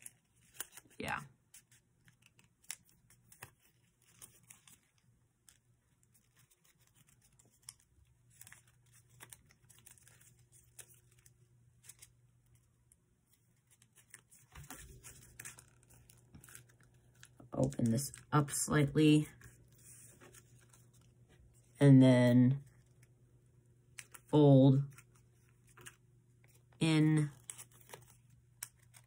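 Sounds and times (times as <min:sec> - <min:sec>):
paper crinkling and folding: 0:00.0 - 0:21.8, 0:22.6 - 0:23.2, 0:23.8 - 0:29.0.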